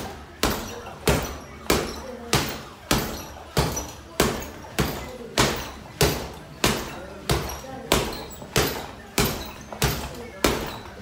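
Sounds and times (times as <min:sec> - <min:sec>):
punches thudding on heavy bag: 0:00.0 - 0:11.0.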